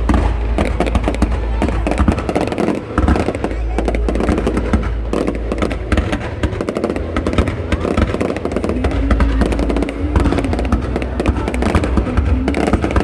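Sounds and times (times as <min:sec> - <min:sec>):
fireworks crackling bursts: 0:00.0 - 0:13.0
low rumble: 0:00.0 - 0:13.0
music playing: 0:00.0 - 0:13.0.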